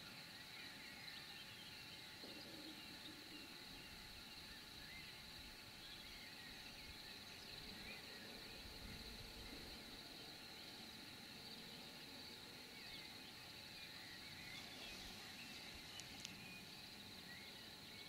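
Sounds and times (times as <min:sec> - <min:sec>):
high-pitched hiss: 0:00.0 - 0:18.0
faint distant chirps: 0:01.0 - 0:18.0.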